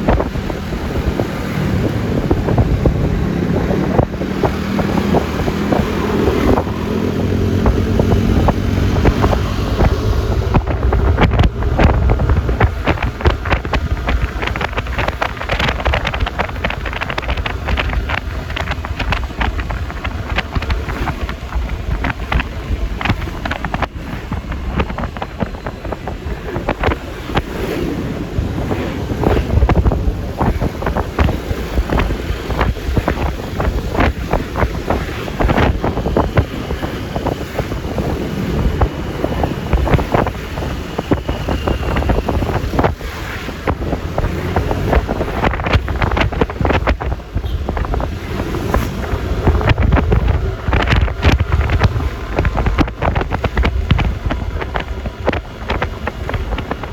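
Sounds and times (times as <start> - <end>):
scooter road noise: 0.0 - 56.9
wind buffeting microphone: 0.0 - 56.9.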